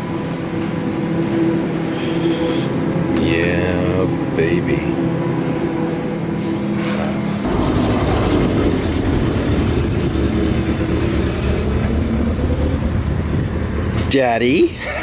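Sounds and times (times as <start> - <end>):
road noise: 0.0 - 15.0
vehicle engine rumble: 0.0 - 15.0.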